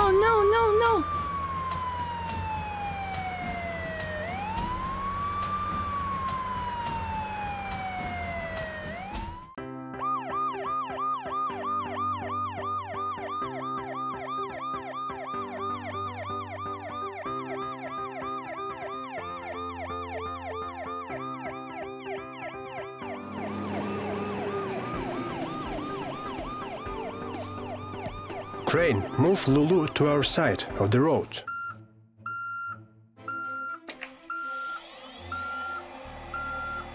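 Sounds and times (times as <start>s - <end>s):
police siren yelping: 0.0s - 29.4s, 33.3s - 36.9s.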